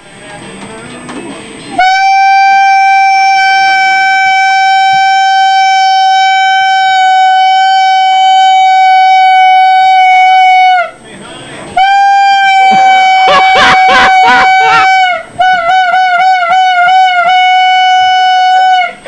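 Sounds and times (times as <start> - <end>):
horn blast: 1.7 - 11.0, 11.8 - 19.0.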